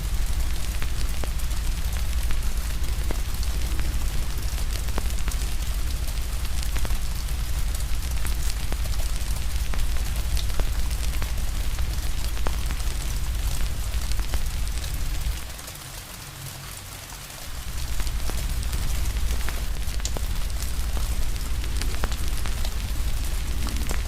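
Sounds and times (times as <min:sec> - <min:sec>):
deep low rumble: 0:00.0 - 0:15.5, 0:17.5 - 0:24.0
wood fire crackling and popping: 0:00.0 - 0:15.8, 0:17.4 - 0:24.0
rain hissing: 0:00.0 - 0:24.0.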